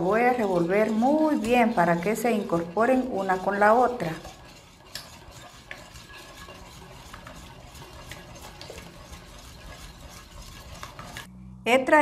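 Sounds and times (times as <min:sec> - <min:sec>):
whisk swishing through liquid: 0:00.0 - 0:11.3
whisk wires clicking against pot: 0:00.0 - 0:11.3.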